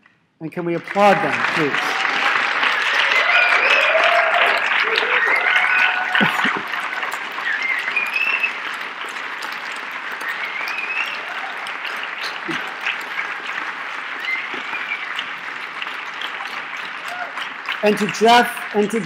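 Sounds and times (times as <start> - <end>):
audience applauding: 0.7 - 19.0
crowd whistling: 1.3 - 19.0.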